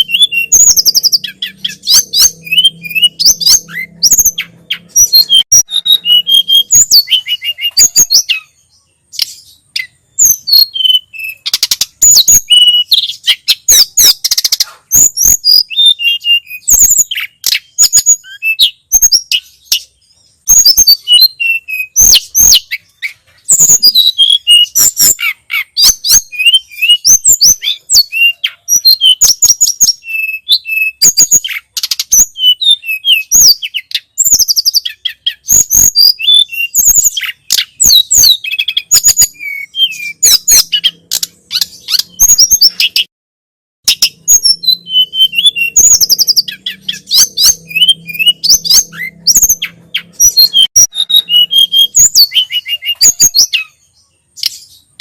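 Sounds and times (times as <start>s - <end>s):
bird whistling and chirping: 0.0s - 43.1s, 43.9s - 55.0s.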